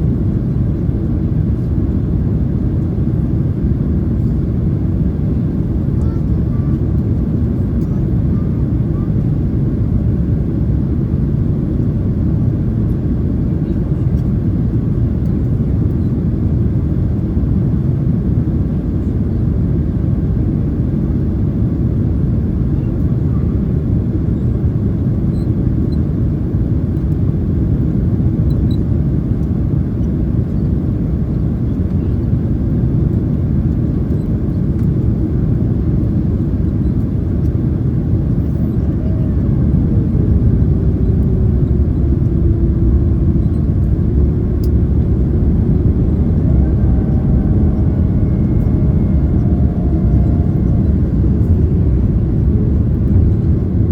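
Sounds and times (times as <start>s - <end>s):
airplane cabin low roar: 0.0s - 53.9s.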